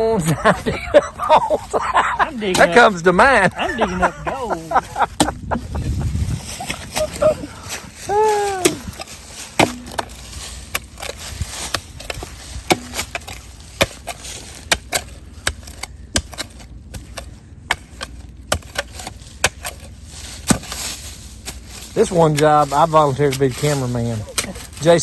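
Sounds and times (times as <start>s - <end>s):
shovel digging into dirt: 1.3s - 5.5s, 8.4s - 25.0s.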